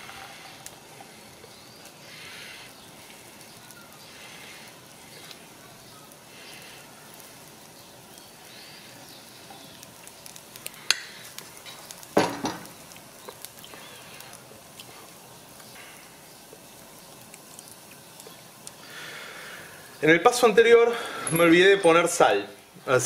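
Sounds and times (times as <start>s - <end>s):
batter sizzling in oil: 0.0s - 23.0s.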